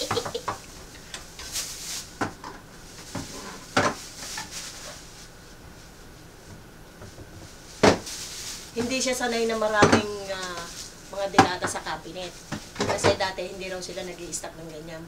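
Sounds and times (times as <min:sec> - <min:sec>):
plastic bag rustling: 0:00.0 - 0:14.7.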